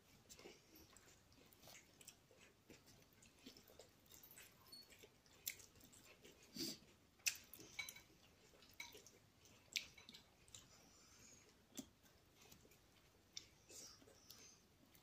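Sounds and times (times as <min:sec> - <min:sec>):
faint chewing: 0:00.0 - 0:15.0.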